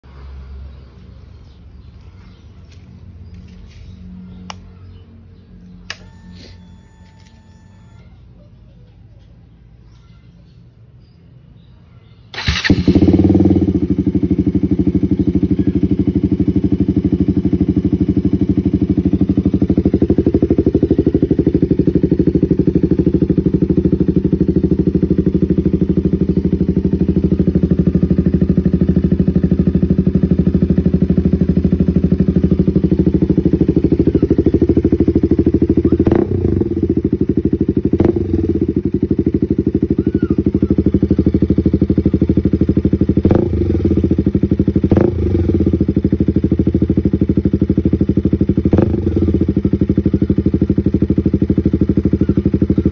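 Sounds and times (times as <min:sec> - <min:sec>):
motorcycle engine idling: 0:00.1 - 0:10.4, 0:12.3 - 0:52.9
engine blips: 0:00.9 - 0:08.9, 0:12.3 - 0:47.6.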